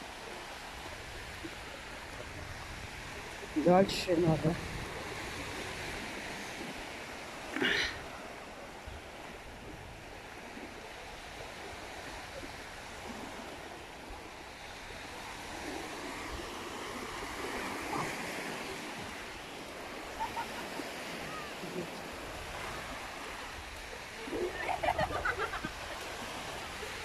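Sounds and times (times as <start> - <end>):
sea surf washing: 0.0 - 27.0.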